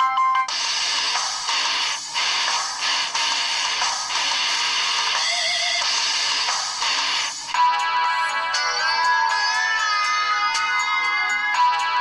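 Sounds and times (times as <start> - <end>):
music ringtone through phone speaker: 0.0 - 12.0.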